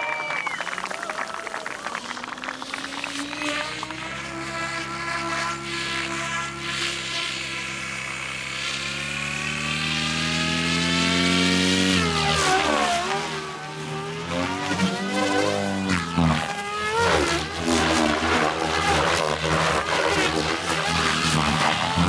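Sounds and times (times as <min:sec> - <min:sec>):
helicopter motor and rotor whine: 0:00.0 - 0:22.0.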